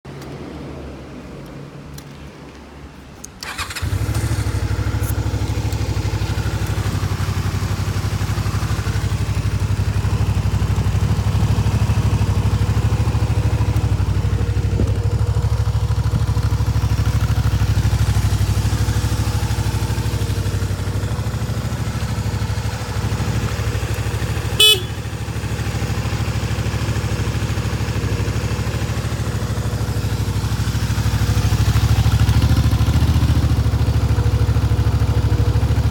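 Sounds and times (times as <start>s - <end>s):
motorcycle engine starting and idling: 3.2s - 35.9s.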